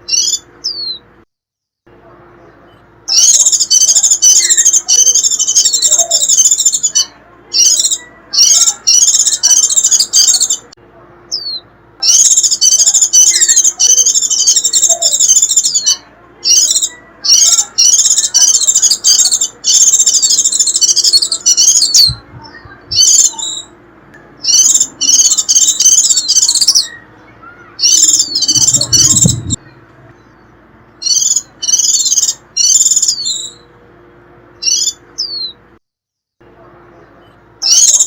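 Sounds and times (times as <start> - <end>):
bird twittering song: 0.0 - 1.1, 2.4 - 10.7, 11.3 - 33.8, 34.6 - 35.6, 37.0 - 38.0.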